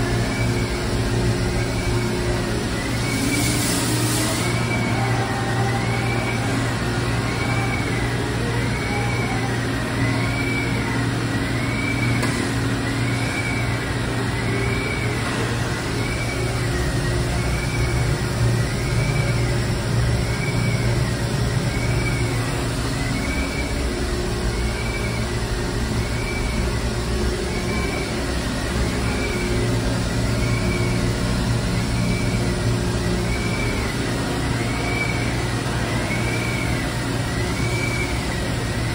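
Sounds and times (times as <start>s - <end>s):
grinding machine motor hum: 0.0s - 38.9s
high machine whine: 0.0s - 38.9s.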